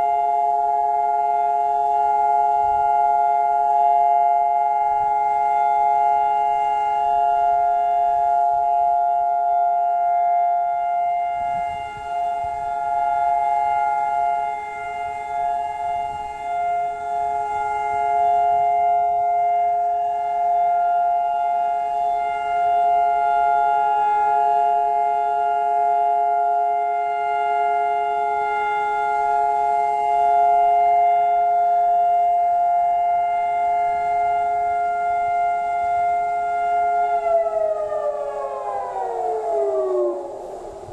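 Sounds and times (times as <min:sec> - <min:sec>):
steady siren tone: 0:00.0 - 0:40.9.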